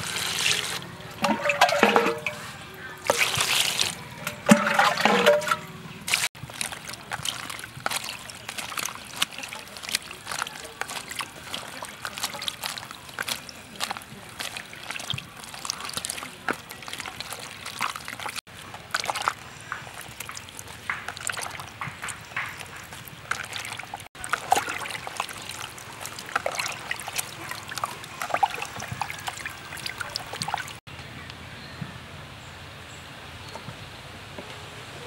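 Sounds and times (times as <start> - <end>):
hands swishing in water: 0.0 - 30.8
water dripping: 0.0 - 30.8.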